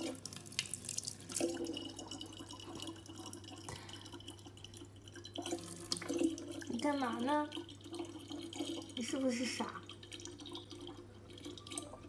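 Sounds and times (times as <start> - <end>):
light water drips: 0.0 - 12.0
water trickling into plastic bottle: 0.0 - 12.0.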